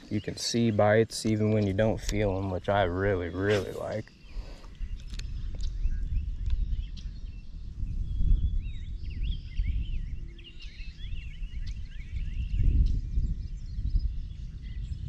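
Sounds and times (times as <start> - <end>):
songbirds chirping: 0.0 - 15.0
wind buffeting microphone: 0.0 - 15.0.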